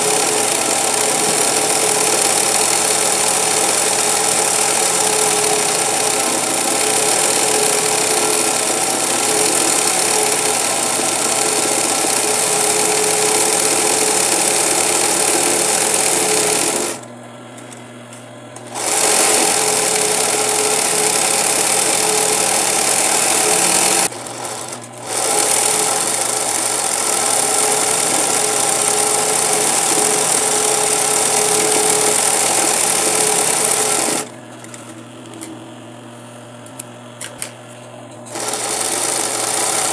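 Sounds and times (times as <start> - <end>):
sewing machine running: 0.0 - 17.1, 18.6 - 34.8, 38.3 - 39.9.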